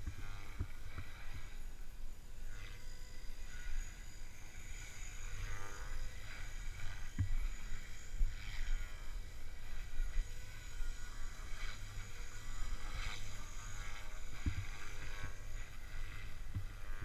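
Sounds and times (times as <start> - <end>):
rc helicopter whine and blade swish: 0.0 - 17.0.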